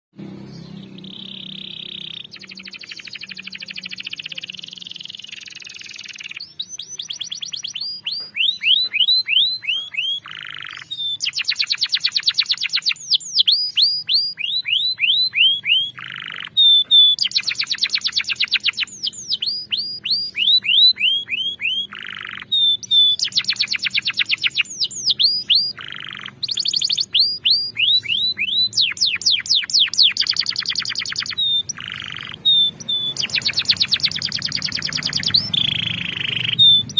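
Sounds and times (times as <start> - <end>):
canary singing trills: 0.2 - 36.9.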